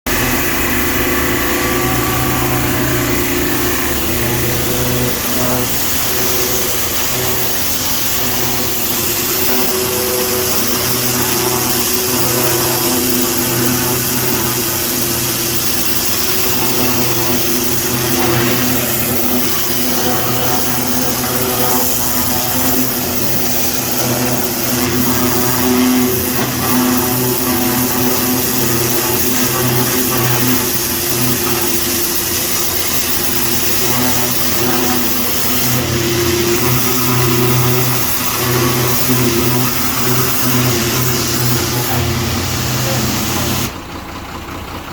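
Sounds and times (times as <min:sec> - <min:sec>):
machine hum: 0:00.0 - 0:44.9
pressure washer jet hissing: 0:00.1 - 0:44.0.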